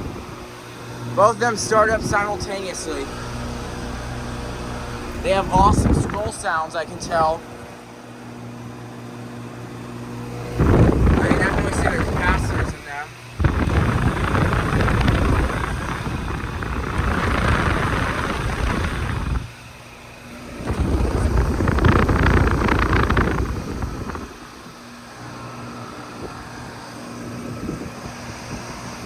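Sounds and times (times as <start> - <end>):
compressor and fan hum: 0.0 - 29.0
fan air buffeting microphone: 0.0 - 29.0.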